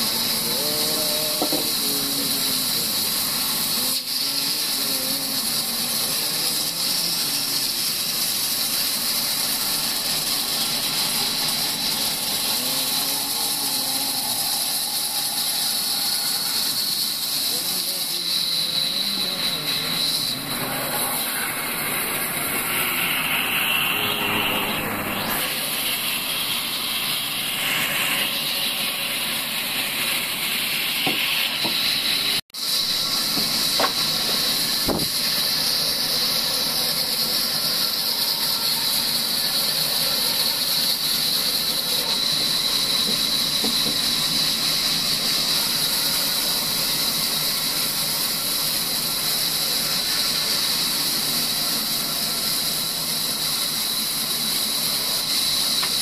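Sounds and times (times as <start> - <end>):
high blade whine: 0.0 - 56.0.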